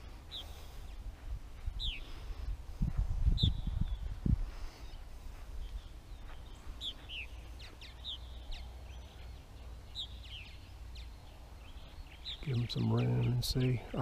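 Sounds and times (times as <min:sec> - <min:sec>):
purple martins chirping: 0:00.0 - 0:02.3, 0:03.4 - 0:14.0.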